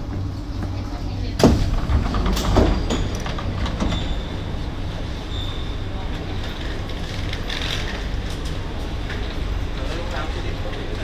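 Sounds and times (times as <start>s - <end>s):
train carriage rumble and hum: 0.0s - 11.0s.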